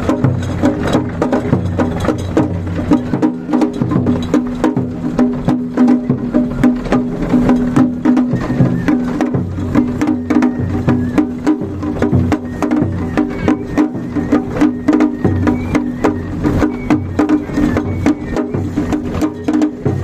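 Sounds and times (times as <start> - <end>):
drums struck with sticks: 0.0 - 20.0.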